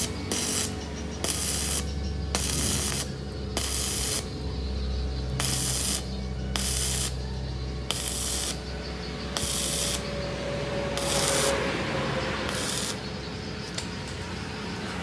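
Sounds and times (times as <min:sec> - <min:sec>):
bursts of hissing: 0:00.0 - 0:13.6
machinery low hum: 0:00.0 - 0:15.0.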